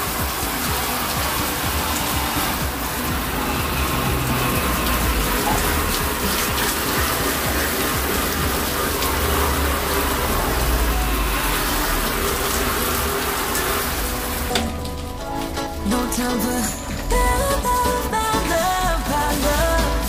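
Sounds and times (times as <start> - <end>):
hose spraying water: 0.0 - 20.0.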